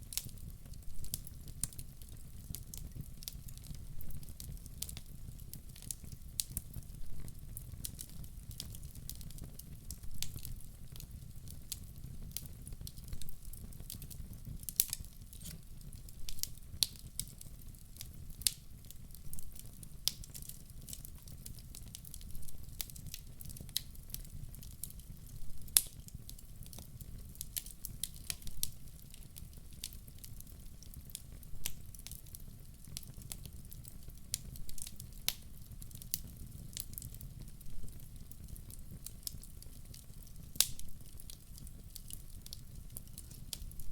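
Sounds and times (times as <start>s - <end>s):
low rumble of flame: 0.0s - 43.9s
wood fire crackling and popping: 0.0s - 43.9s.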